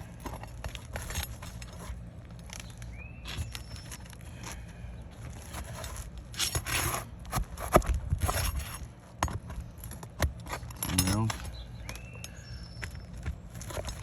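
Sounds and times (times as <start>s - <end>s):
shingle scraping: 0.0s - 12.0s, 12.7s - 14.0s.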